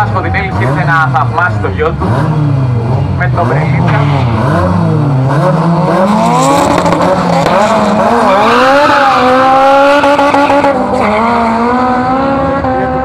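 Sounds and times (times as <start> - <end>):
cars accelerating hard: 0.0 - 13.0.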